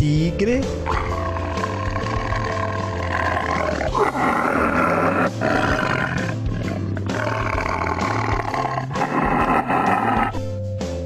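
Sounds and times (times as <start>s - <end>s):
background music: 0.0s - 11.0s
tiger roaring: 0.8s - 10.4s.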